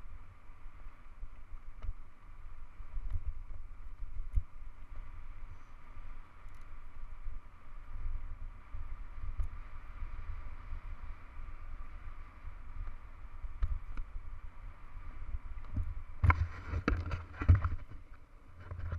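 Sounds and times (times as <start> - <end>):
bike rolling on loose dirt: 0.0 - 18.9
wind buffeting microphone: 0.0 - 18.9.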